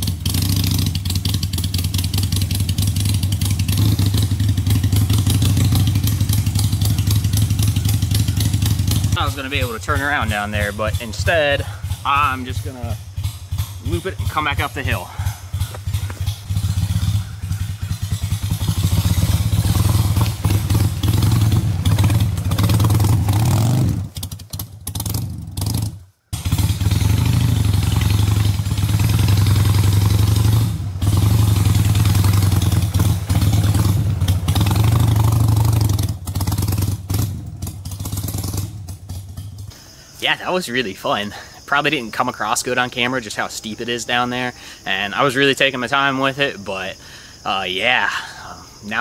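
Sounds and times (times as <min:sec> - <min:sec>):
motorcycle engine at low revs: 0:00.0 - 0:40.0.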